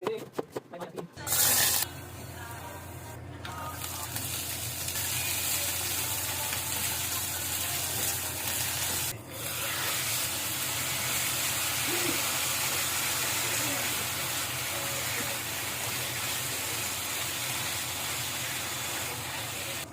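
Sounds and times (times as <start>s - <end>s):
food sizzling in a pan: 1.2s - 1.9s, 3.6s - 19.9s.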